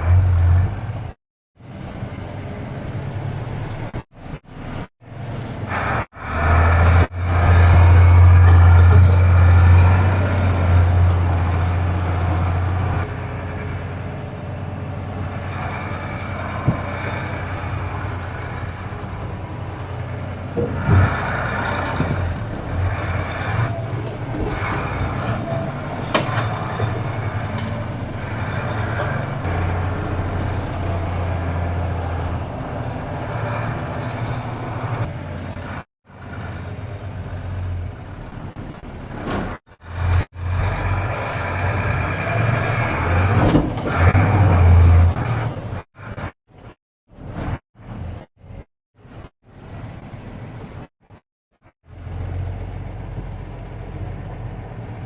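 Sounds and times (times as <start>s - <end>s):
truck diesel engine driving: 0.0s - 46.3s, 51.9s - 55.0s.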